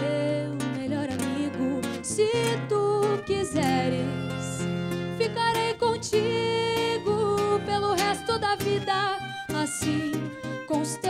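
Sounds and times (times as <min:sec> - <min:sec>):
plucked acoustic guitar: 0:00.0 - 0:11.0
bowed violin melody: 0:01.1 - 0:11.0.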